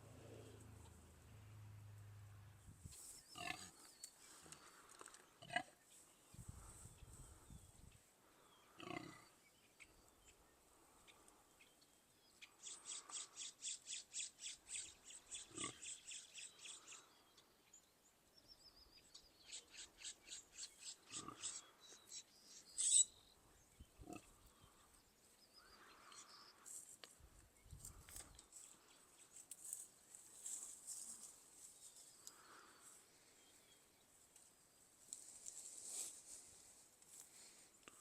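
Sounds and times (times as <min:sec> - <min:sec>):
faint farm animal calls: 0:00.0 - 0:17.7, 0:19.0 - 0:27.0, 0:27.7 - 0:34.0.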